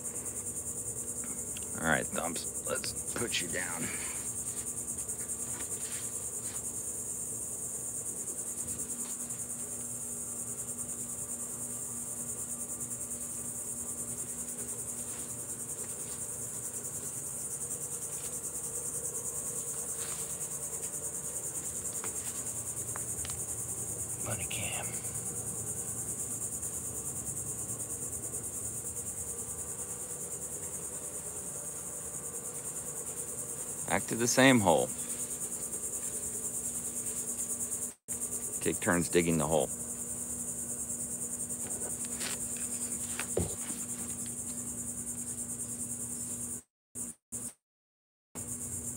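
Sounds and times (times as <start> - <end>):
insects trilling: 0.0 - 47.6, 48.4 - 48.9.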